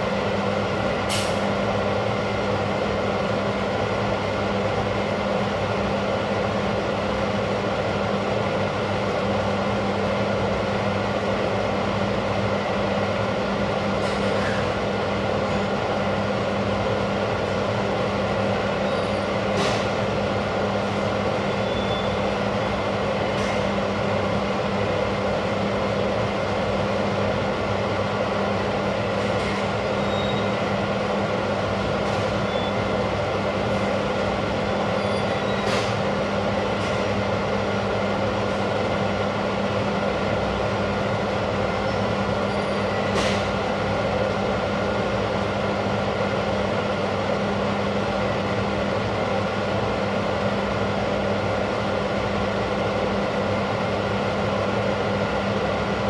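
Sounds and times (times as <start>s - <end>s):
mechanical hum with hiss: 0.0s - 56.0s.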